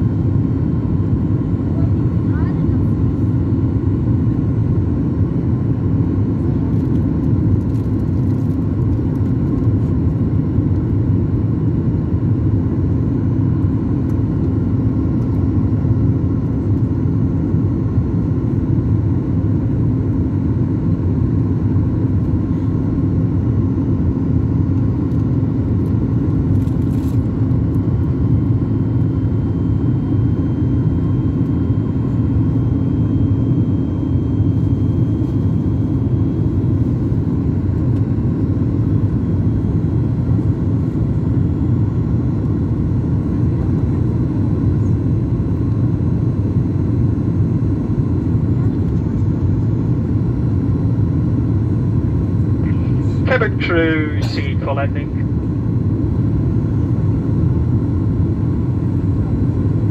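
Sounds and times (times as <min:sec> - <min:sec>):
aircraft cabin engine rumble: 0:00.0 - 0:59.9
steady hum: 0:00.0 - 0:59.9.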